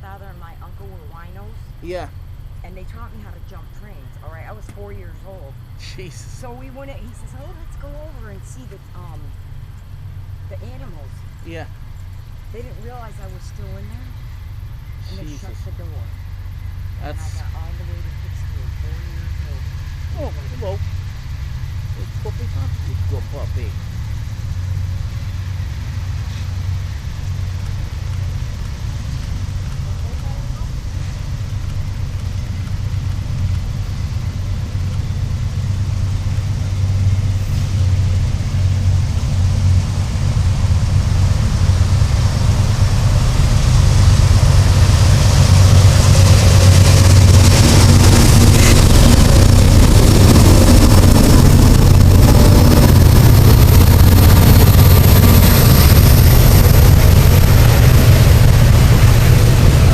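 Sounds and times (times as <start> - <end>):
faint high whine: 0.0 - 59.9
heavy engine rumble: 0.0 - 59.9.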